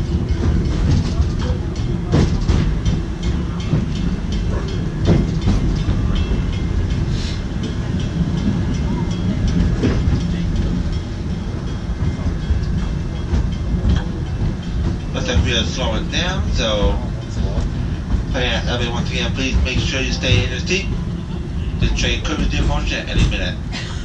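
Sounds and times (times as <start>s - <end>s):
wheel clacking over rail joints: 0.0s - 23.7s
train rumbling on track: 0.0s - 24.0s.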